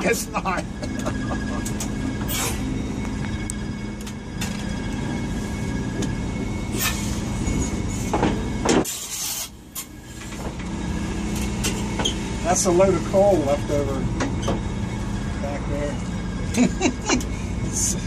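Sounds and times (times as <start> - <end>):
train engine humming: 0.0 - 18.0.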